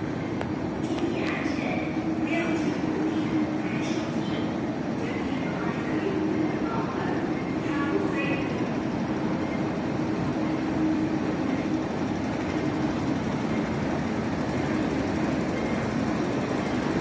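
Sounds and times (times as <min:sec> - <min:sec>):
station rumble and hum: 0:00.0 - 0:17.0.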